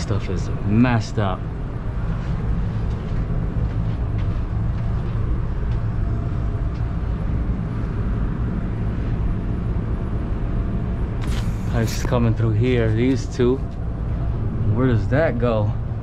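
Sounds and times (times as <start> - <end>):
hvac equipment humming: 0.0 - 16.0.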